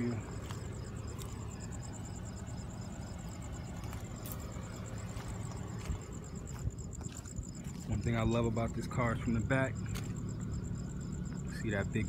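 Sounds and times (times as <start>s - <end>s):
car engine idling: 0.0s - 12.0s
crickets chirping: 0.0s - 12.0s.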